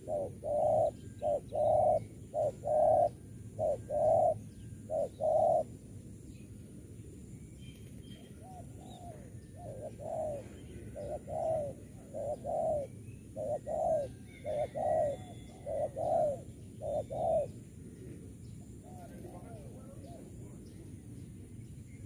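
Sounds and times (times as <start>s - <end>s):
dove cooing: 0.0s - 5.8s, 8.2s - 20.6s.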